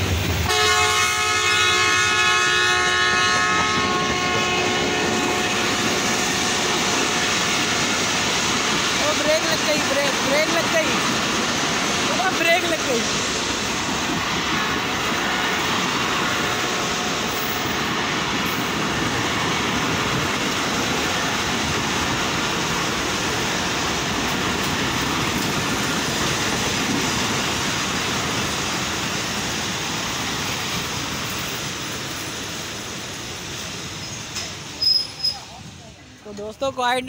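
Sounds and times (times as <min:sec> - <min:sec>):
passenger train rumbling on rails: 0:00.0 - 0:37.0.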